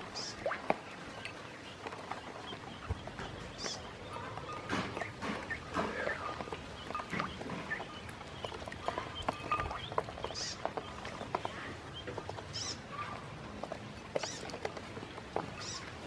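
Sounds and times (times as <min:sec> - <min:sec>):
ducklings pecking in water: 0:00.0 - 0:16.0
duckling peeps: 0:00.1 - 0:13.3.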